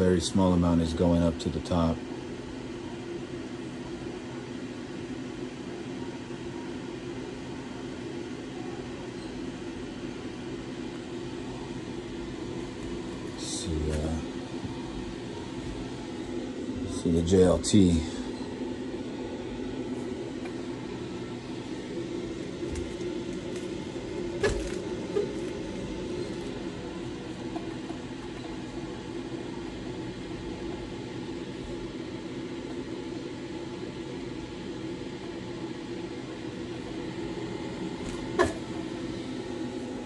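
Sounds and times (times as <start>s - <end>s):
electric fan hum: 0.0s - 40.0s.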